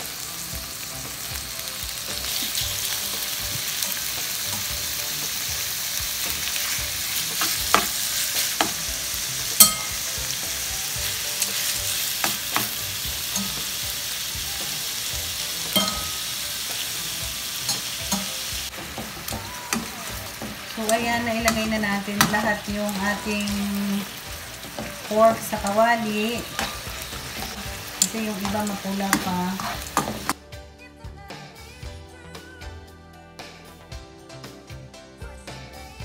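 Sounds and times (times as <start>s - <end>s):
meat sizzling in hot oil: 0.0s - 30.4s.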